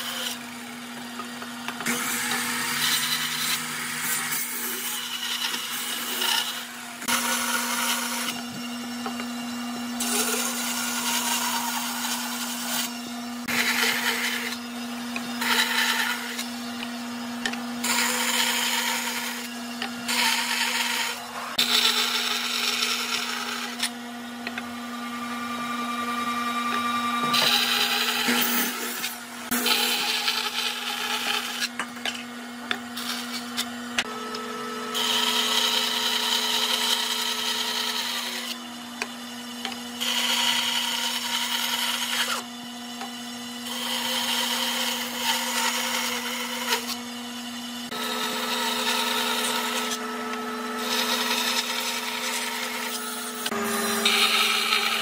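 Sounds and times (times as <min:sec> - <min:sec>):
saw blade cutting wood: 0:00.0 - 0:47.1, 0:47.8 - 0:55.0
band saw motor hum: 0:00.0 - 0:55.0.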